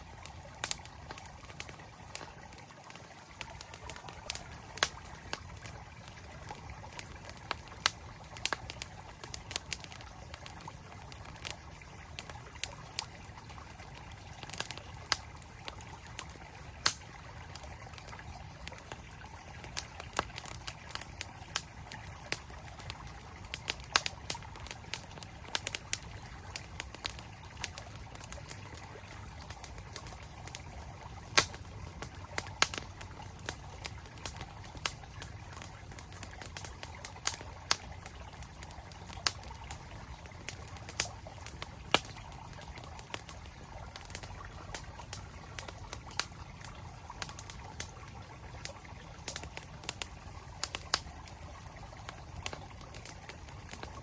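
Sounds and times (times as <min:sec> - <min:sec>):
campfire crackling and popping: 0:00.0 - 0:54.0
flowing stream: 0:00.0 - 0:54.0.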